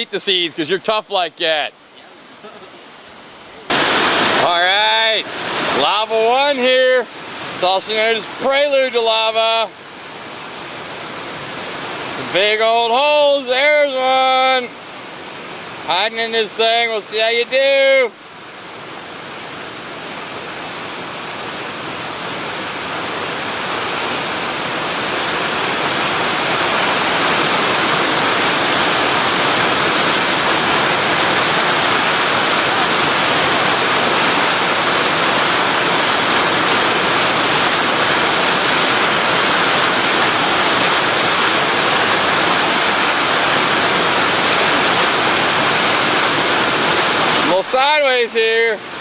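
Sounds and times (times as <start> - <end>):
whitewater roaring: 0.0 - 49.0.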